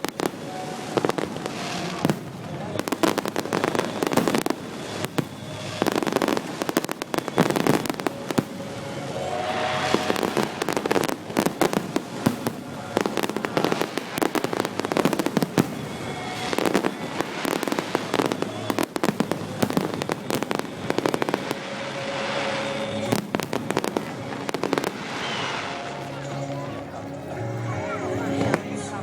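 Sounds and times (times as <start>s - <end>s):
fireworks bangs and crackling: 0.0s - 27.4s.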